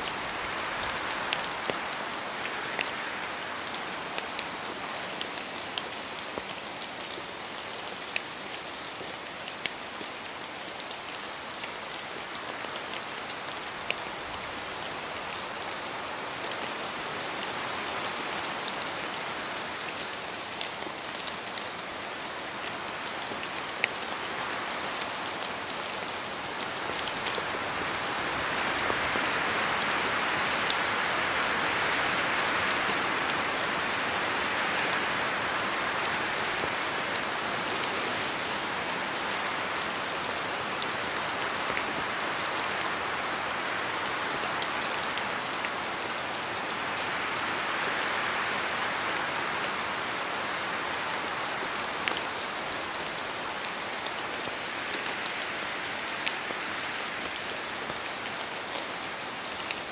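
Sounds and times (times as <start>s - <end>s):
steady rainfall hiss: 0.0s - 59.9s.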